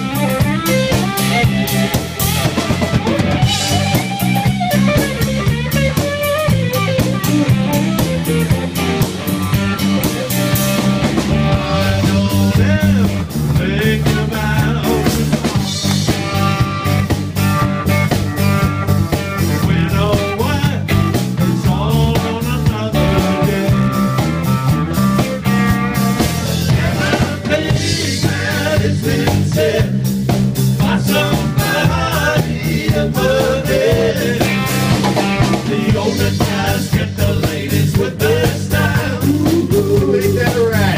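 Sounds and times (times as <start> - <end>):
drum kit: 0.0 - 40.9
electric bass: 0.0 - 40.9
electric guitar: 0.0 - 40.9.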